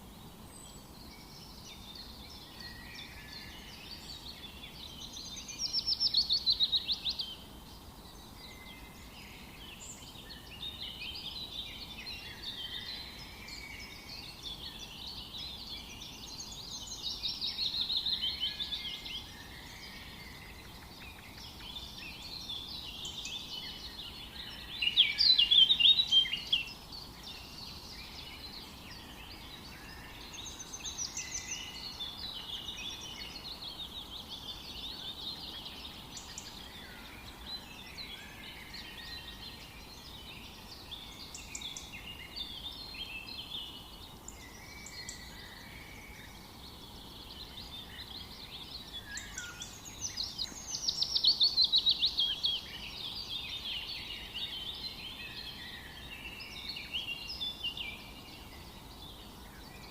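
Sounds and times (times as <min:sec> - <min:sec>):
faint background hiss: 0:00.0 - 0:59.9
songbirds chirping and warbling: 0:00.0 - 0:59.9.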